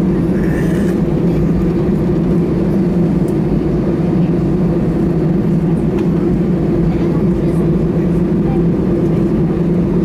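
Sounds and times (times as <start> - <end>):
aircraft cabin engine hum: 0.0 - 10.0.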